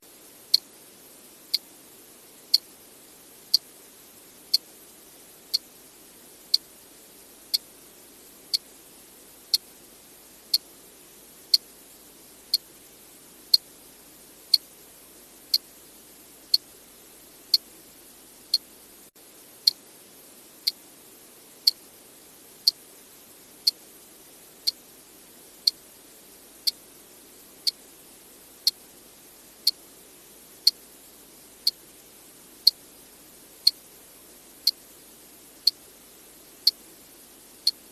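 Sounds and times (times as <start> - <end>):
faint steady hiss: 0.0 - 37.9.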